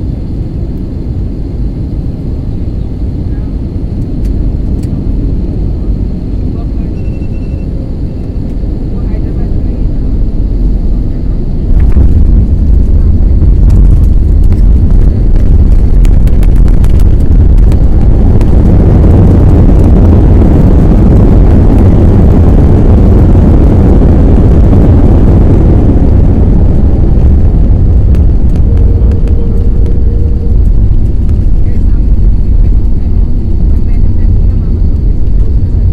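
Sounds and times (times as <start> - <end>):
airplane landing rumble: 0.0 - 35.9.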